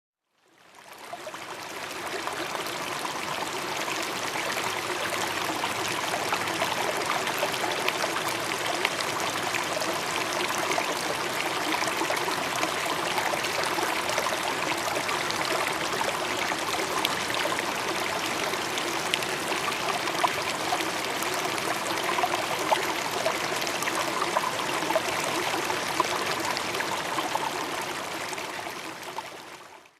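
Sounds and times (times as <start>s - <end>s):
running water stream: 0.5s - 29.9s.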